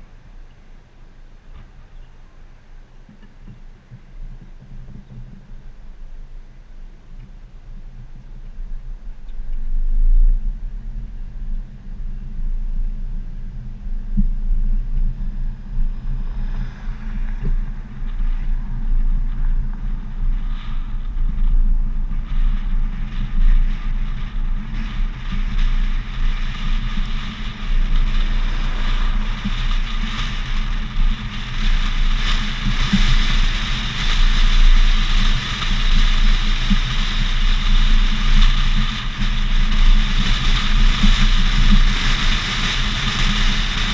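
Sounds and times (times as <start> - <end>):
low engine hum: 0.0 - 43.9
wind buffeting: 3.5 - 43.9.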